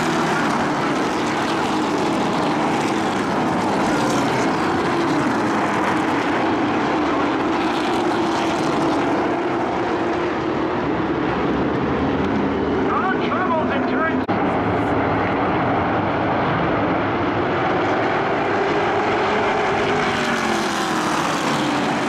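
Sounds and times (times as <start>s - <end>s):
racing truck engines droning: 0.0s - 22.0s.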